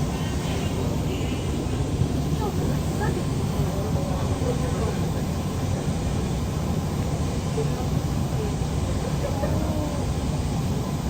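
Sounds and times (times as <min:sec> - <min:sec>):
faint voices: 0:00.0 - 0:11.0
train carriage rumble: 0:00.0 - 0:11.0.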